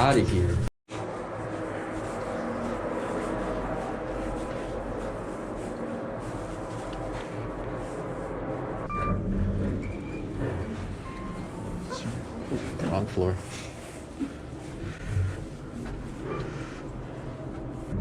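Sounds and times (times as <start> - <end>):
elevator humming: 1.2 - 18.0.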